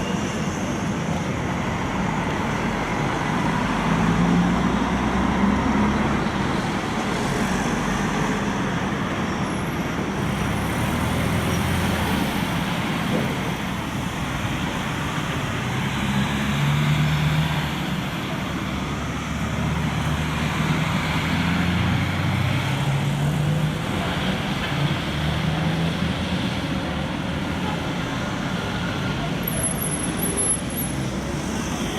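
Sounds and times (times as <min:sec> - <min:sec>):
buses and traffic driving past: 0:00.0 - 0:31.9
road noise: 0:00.0 - 0:31.9.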